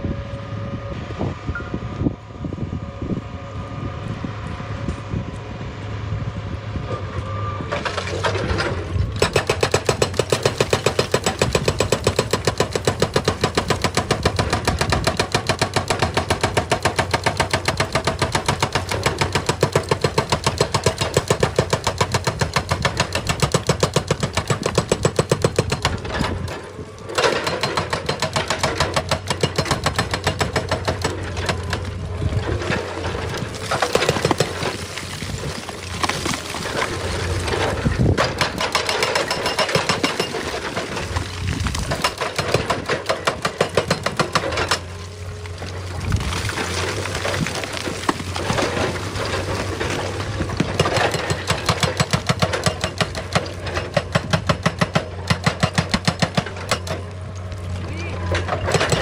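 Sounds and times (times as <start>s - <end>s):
excavator engine running: 0.0s - 59.0s
hydraulic rock breaker hammering stone: 7.8s - 45.0s, 46.0s - 57.1s, 58.2s - 59.0s.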